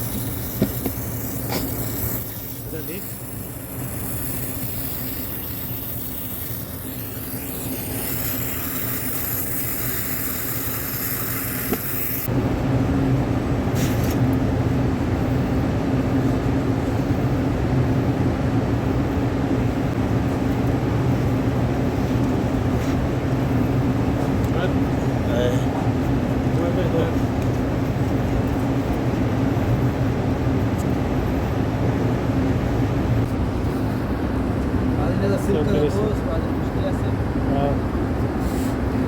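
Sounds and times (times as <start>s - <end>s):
air conditioning unit humming: 0.0s - 39.0s.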